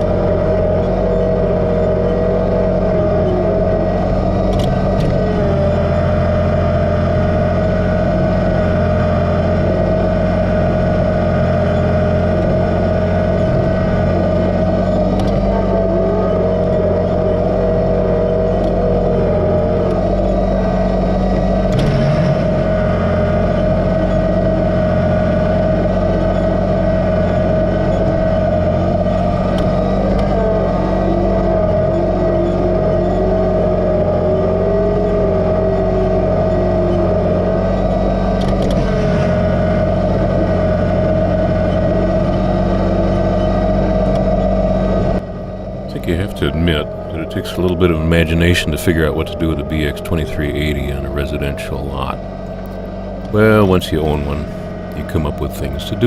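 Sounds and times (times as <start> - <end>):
high whine: 0.0 - 56.0
tractor diesel engine running: 0.0 - 56.0.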